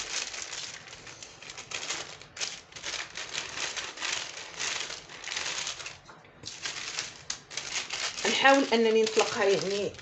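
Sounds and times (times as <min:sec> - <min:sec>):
baking paper crinkling: 0:00.0 - 0:10.0.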